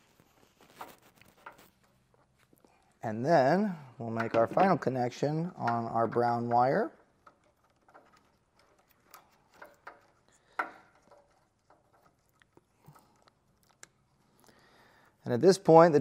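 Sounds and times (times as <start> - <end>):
wires rustling: 0.0 - 16.0.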